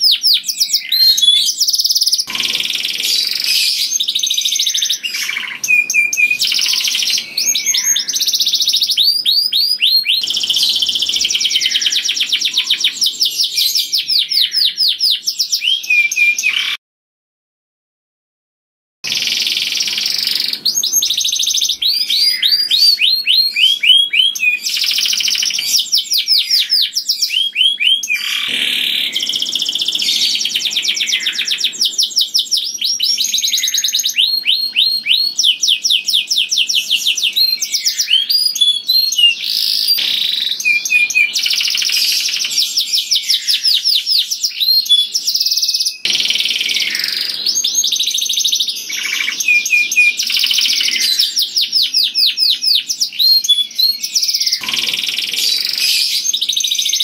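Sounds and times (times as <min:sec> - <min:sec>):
canary singing trills: 0:00.0 - 0:16.8, 0:19.1 - 0:57.0.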